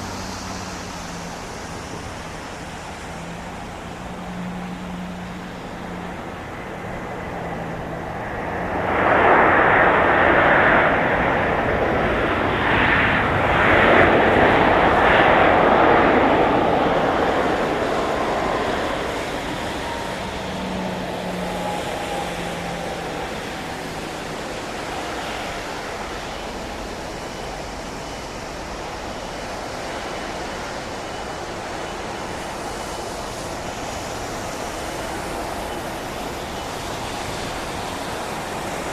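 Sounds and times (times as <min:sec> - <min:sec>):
faint falling whine: 0:00.0 - 0:38.9
jet engines passing on landing: 0:00.0 - 0:38.9.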